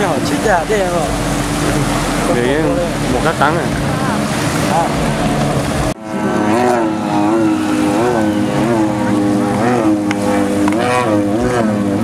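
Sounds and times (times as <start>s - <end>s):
jet ski engines revving: 0.0s - 12.0s.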